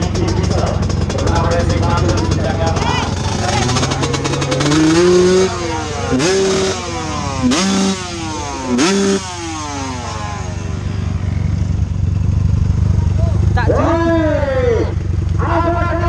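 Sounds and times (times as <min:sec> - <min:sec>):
dirt bike engine revving: 0:00.0 - 0:16.0
motorcycle engines running: 0:00.0 - 0:16.0.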